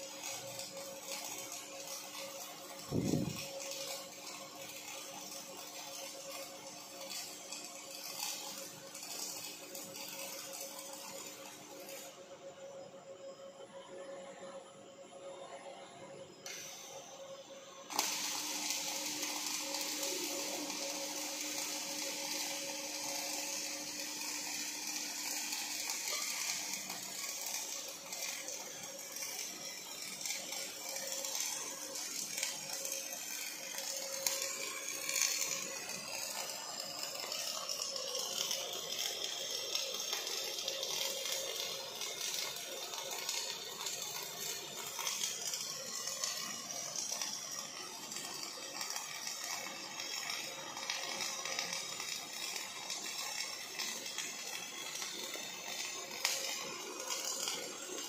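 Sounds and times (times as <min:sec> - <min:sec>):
welding arc crackling hiss: 0:00.0 - 0:12.2, 0:16.5 - 0:58.0.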